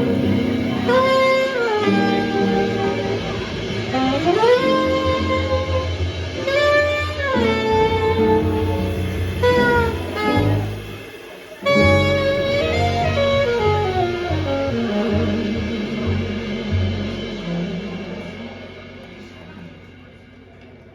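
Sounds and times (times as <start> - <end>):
saxophone melody with pitch slides: 0.0 - 18.6
jazz band playing: 0.0 - 20.4.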